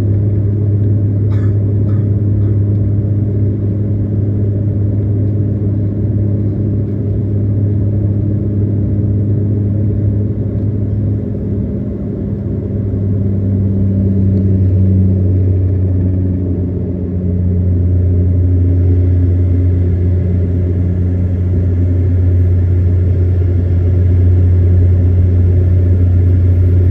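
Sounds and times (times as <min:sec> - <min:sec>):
airliner engine drone in cabin: 0:00.0 - 0:26.9.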